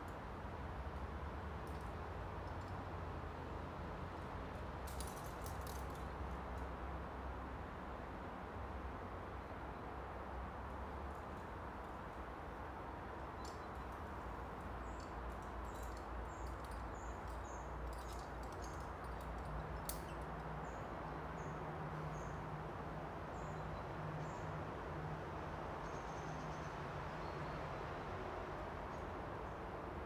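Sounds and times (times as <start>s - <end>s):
outdoor background rush: 0.0s - 30.0s.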